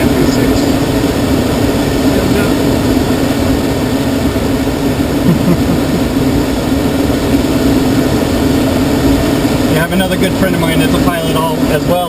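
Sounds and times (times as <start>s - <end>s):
airflow rushing in cockpit: 0.0s - 12.0s
constant low hum: 0.0s - 12.0s.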